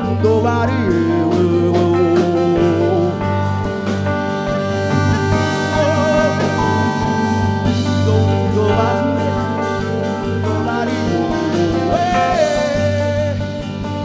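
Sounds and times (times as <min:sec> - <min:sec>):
drum kit: 0:00.0 - 0:14.0
electric bass: 0:00.0 - 0:14.0
keyboards: 0:00.0 - 0:14.0
soprano saxophone: 0:01.2 - 0:14.0.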